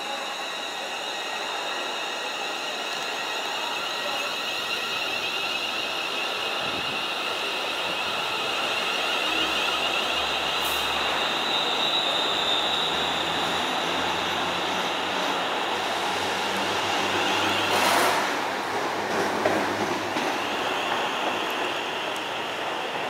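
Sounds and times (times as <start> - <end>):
electric train high-pitched whine: 0.0 - 23.0
train running noise: 0.0 - 23.0.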